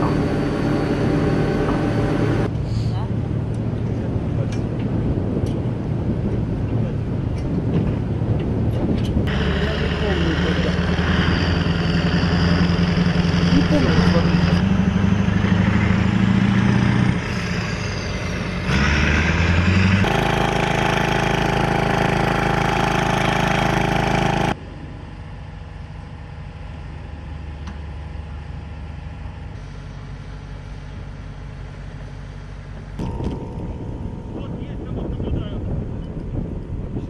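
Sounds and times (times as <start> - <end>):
diesel truck engines droning: 0.0 - 37.0.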